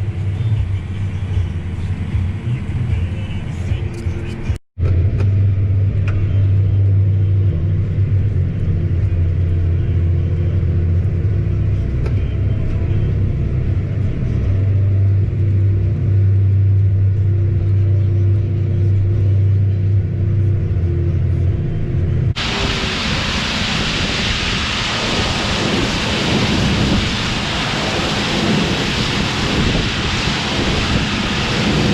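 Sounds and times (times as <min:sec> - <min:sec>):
vehicle engine low drone: 0:00.0 - 0:31.9.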